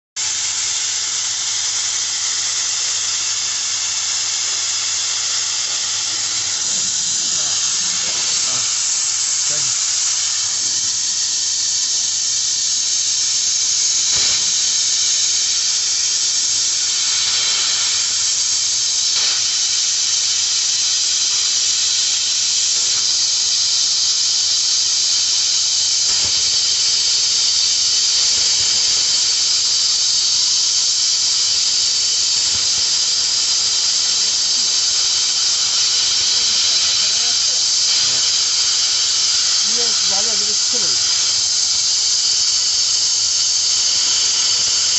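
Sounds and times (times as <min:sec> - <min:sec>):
laser cutting machine hissing: 0:00.2 - 0:44.9.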